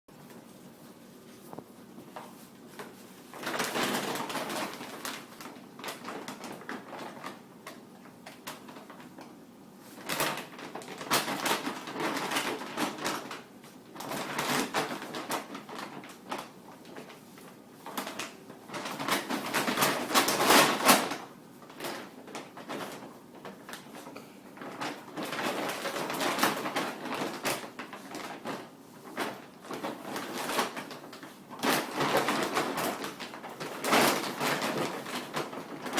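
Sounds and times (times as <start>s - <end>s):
dog food bag crinkling: 2.2s - 9.3s, 9.9s - 35.9s.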